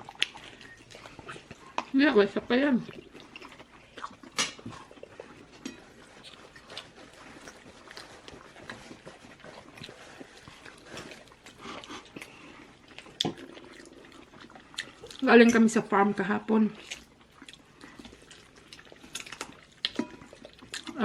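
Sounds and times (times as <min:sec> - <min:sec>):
people chewing and smacking: 0:00.0 - 0:21.0.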